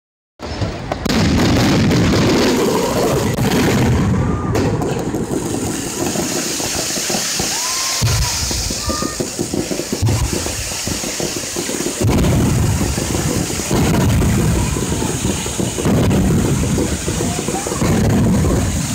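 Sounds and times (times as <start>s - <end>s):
fireworks booming: 0.4s - 18.9s
continuous noisy wash: 1.8s - 18.9s.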